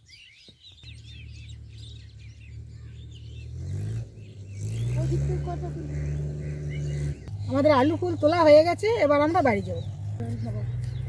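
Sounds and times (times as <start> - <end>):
small birds chirping: 0.0 - 11.0
low engine hum: 0.8 - 11.0.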